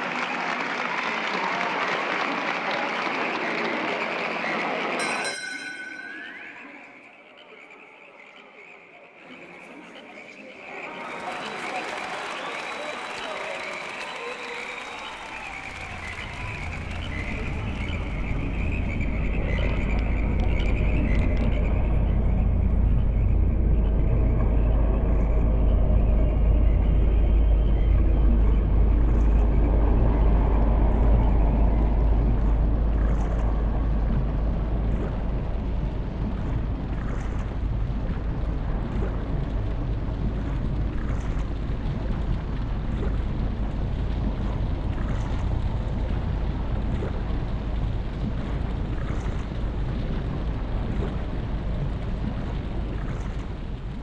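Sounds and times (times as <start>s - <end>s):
sea boiling and bubbling: 0.0s - 54.0s.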